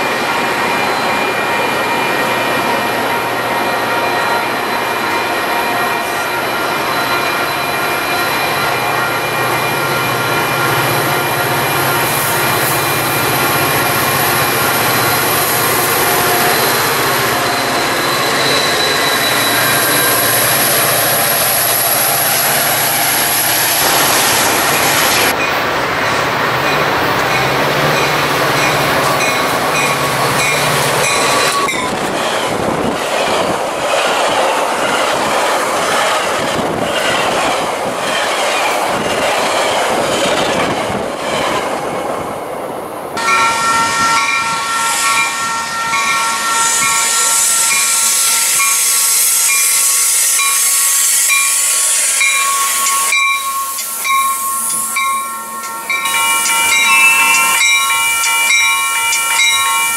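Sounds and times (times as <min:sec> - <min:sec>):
train brakes squealing: 0:00.0 - 0:35.2, 0:43.2 - 0:59.9
train wheels rushing on rails: 0:00.0 - 0:59.9.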